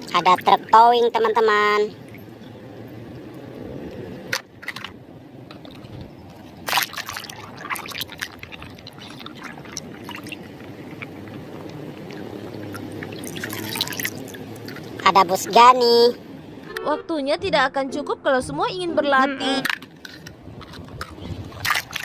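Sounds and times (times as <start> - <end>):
water pouring and trickling: 0.0 - 16.0, 19.8 - 22.0.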